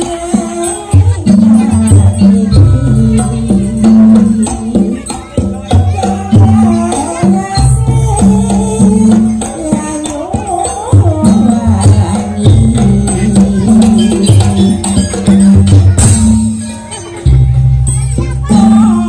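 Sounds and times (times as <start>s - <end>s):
jingling rattling percussion: 0.0s - 19.0s.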